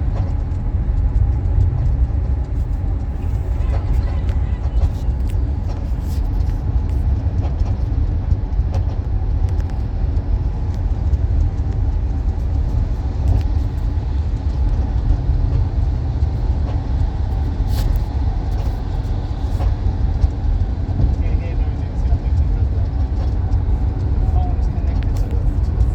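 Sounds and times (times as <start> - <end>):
car engine low rumble: 0.0 - 25.9.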